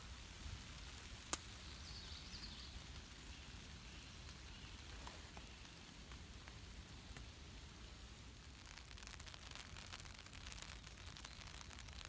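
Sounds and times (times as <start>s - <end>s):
light rain with dripping drops: 0.0s - 12.0s.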